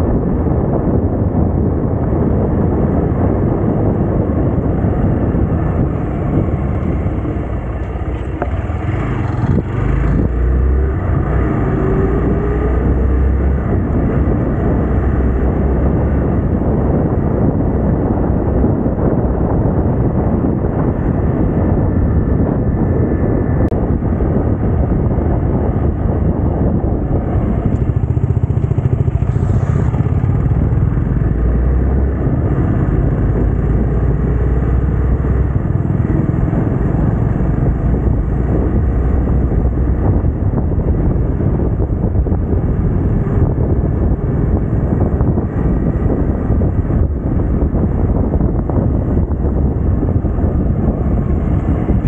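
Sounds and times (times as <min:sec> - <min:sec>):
motorcycle engine running: 0:00.0 - 0:52.0
wind rushing over microphone: 0:00.0 - 0:52.0.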